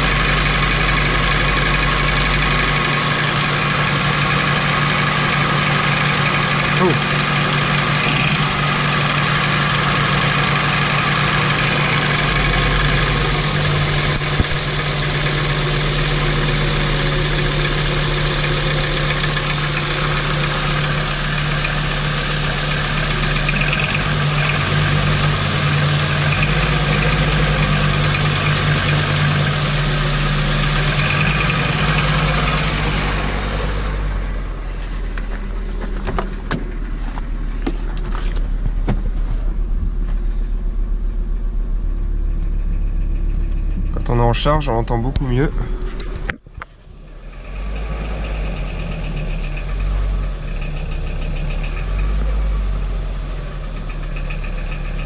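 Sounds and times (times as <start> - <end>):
engine running with knock: 0.0 - 55.0.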